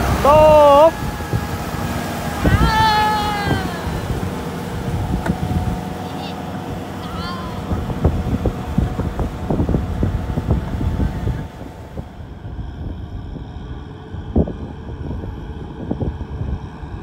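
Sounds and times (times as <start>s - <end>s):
tractor diesel engine under load: 0.0s - 17.0s
wind buffeting microphone: 0.0s - 17.0s.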